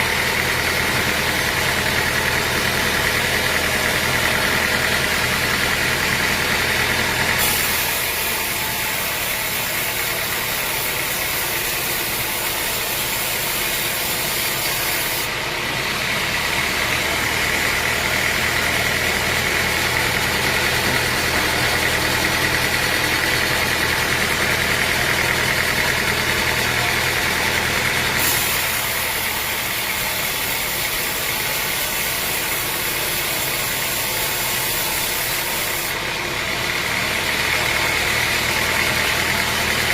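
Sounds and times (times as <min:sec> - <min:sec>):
sawmill machinery drone with whine: 0:00.0 - 0:39.9.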